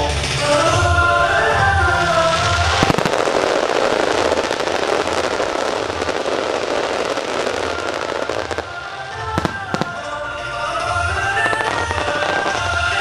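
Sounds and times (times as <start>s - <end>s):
fireworks crackling: 0.0s - 13.0s
fireworks bangs: 0.6s - 13.0s.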